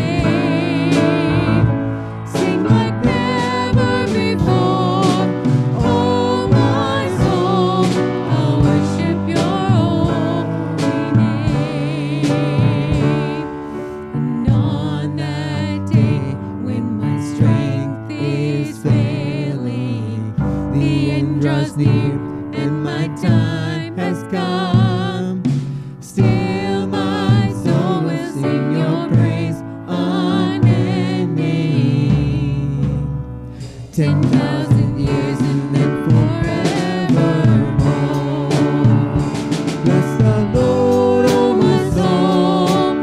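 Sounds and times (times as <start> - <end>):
man singing: 0.0 - 13.5, 14.2 - 33.3, 33.9 - 43.0
woman singing: 0.0 - 33.1, 34.0 - 43.0
drum kit: 0.0 - 43.0
piano: 0.0 - 43.0.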